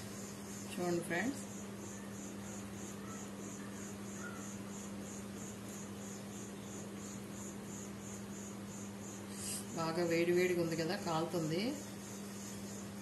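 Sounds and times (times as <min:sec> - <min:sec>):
cricket chirping: 0:00.0 - 0:13.0
low steady hum: 0:00.0 - 0:13.0.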